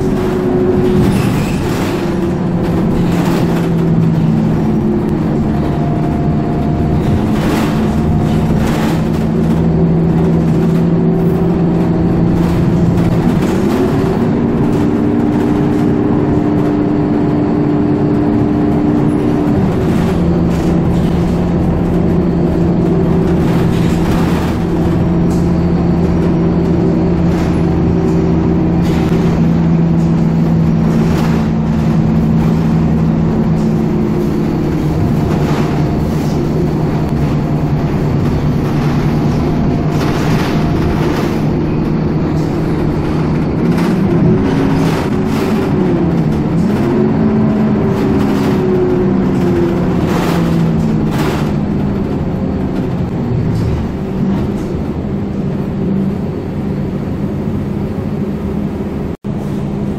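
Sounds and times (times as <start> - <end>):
bus body knocks and rattles: 0.0 - 59.9
bus diesel engine running: 0.0 - 59.9.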